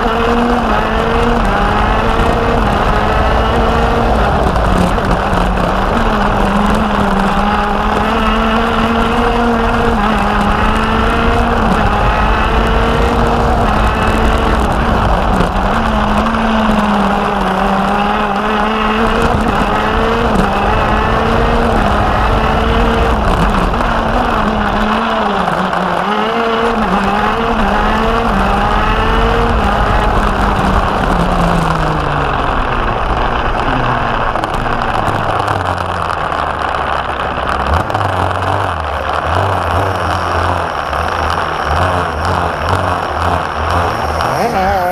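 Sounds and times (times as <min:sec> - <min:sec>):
kart engine at speed: 0:00.0 - 0:44.9.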